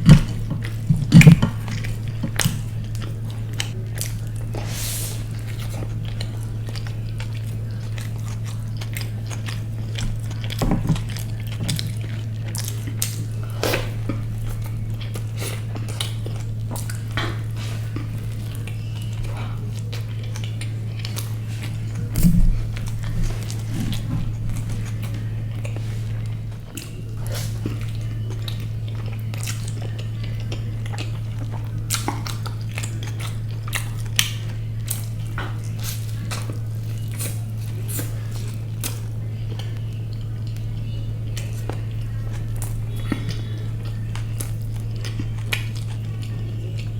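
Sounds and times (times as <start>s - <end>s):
chewing and biting: 0.0s - 46.9s
steady low hum: 0.0s - 46.9s.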